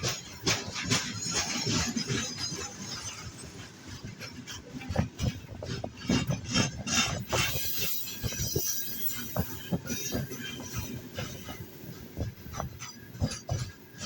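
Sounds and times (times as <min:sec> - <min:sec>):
freight train wheels clattering: 0:00.0 - 0:14.0.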